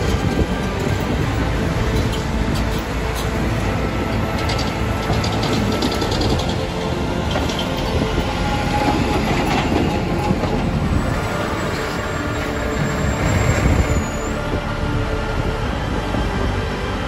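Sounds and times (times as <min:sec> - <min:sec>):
diesel truck engines rumbling: 0:00.0 - 0:17.0.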